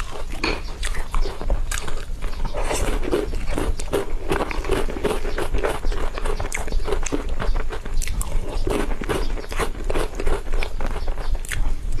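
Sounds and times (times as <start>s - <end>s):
mouth smacks and chewing: 0.0s - 12.0s.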